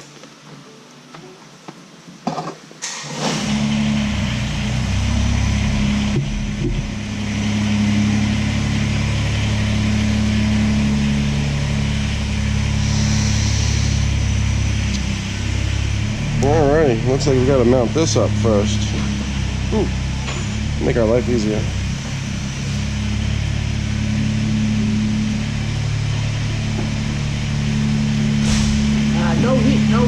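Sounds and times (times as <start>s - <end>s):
tractor engine idling: 2.8s - 30.0s.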